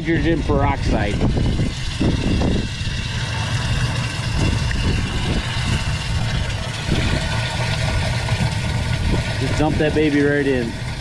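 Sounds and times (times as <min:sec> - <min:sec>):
low rumble: 0:00.0 - 0:11.0
water running from a hose: 0:00.0 - 0:11.0.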